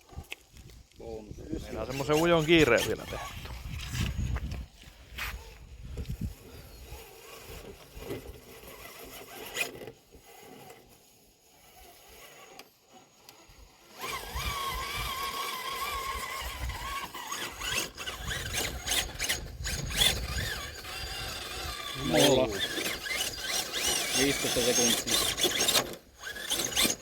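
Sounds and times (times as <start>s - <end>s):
electric motor and gearbox whining: 0.0s - 27.0s.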